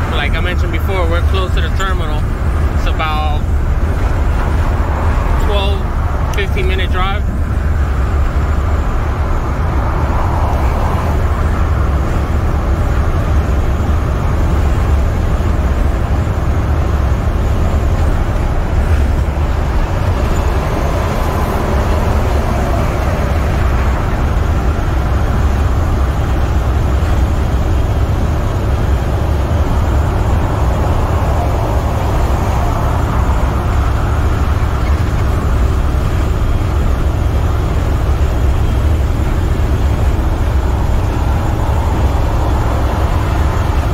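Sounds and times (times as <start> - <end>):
truck diesel engine drone: 0.0 - 43.9
tyre road noise: 0.0 - 43.9.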